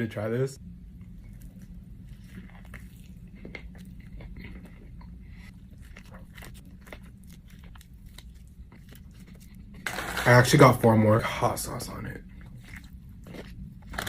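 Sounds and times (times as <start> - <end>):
person chewing crunchy food: 0.8 - 10.4, 11.7 - 14.0.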